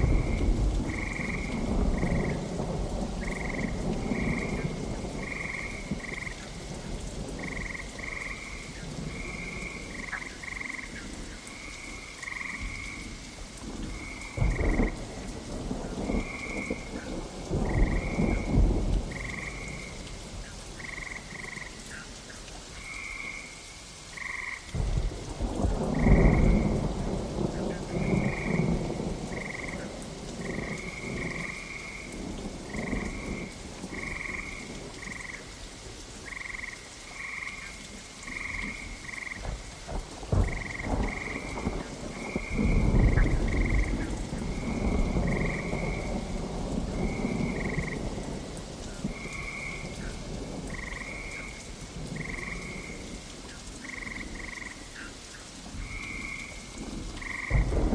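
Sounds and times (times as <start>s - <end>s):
thunder rumbling: 0.0s - 21.6s, 24.7s - 35.5s, 38.2s - 54.8s, 55.6s - 57.9s
steady rain: 0.0s - 57.9s.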